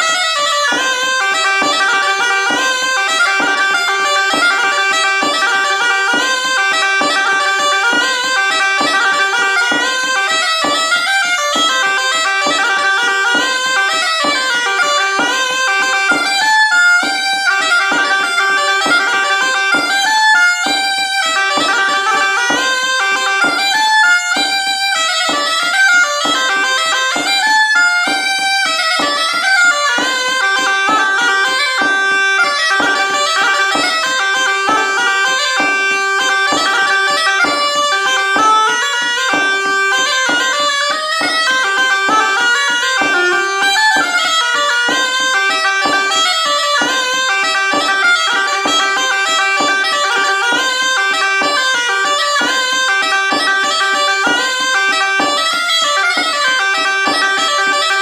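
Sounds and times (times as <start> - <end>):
bagpipe playing reedy melody: 0.0 - 58.0.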